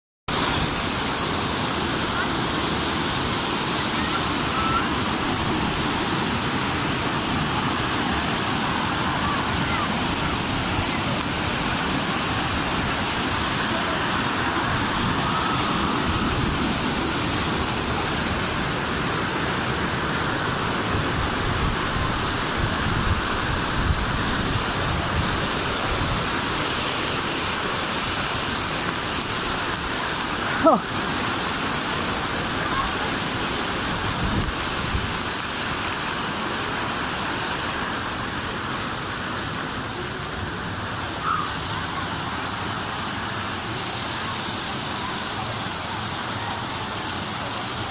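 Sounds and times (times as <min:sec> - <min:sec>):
waterfall rushing: 0:00.3 - 0:47.9.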